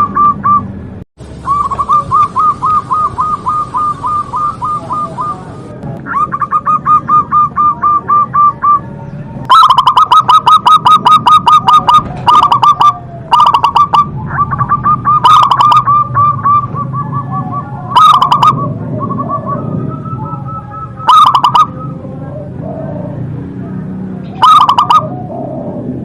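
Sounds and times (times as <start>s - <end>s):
dove cooing in rapid notes: 0.0s - 0.7s, 1.4s - 8.9s, 9.5s - 23.4s, 24.2s - 26.0s.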